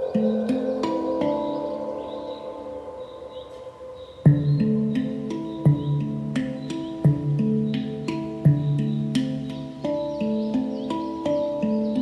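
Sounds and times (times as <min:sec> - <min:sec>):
handpan notes ringing: 0:00.0 - 0:12.0.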